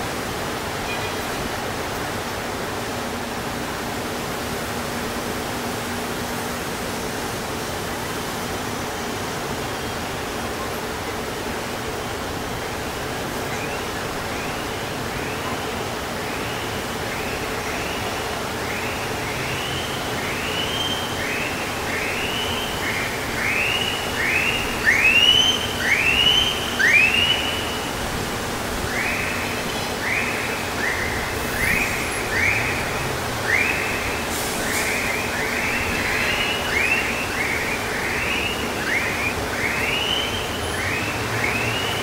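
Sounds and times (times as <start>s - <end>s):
city traffic: 0.0s - 42.0s.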